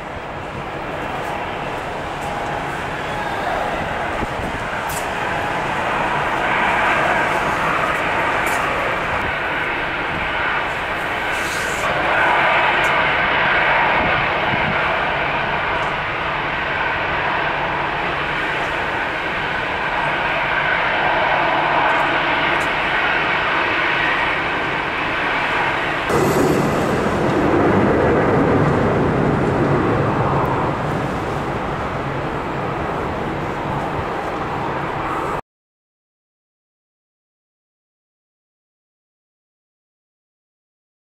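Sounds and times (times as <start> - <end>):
faint jet engine whine: 0.0 - 35.4
jet engines rushing: 0.0 - 35.4.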